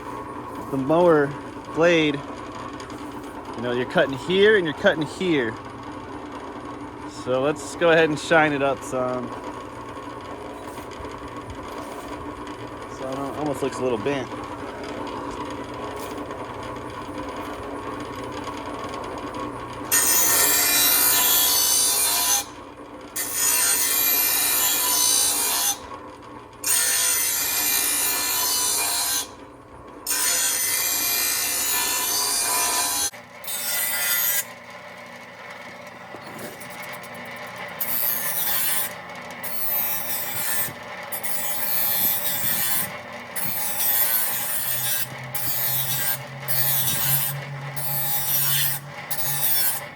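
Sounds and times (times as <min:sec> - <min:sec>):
blade grinding on grinding wheel: 0:00.0 - 0:26.0, 0:26.6 - 0:49.9
bench grinder running: 0:00.0 - 0:49.9.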